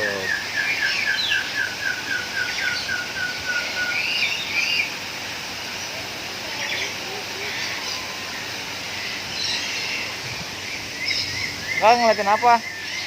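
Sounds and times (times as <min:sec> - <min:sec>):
birds chirping and warbling: 0:00.0 - 0:13.0.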